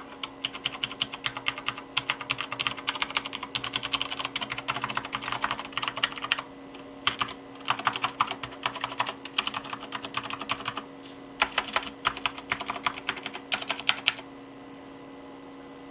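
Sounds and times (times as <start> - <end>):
mechanical keyboard typing: 0.0 - 6.4, 7.0 - 10.8, 11.4 - 14.2.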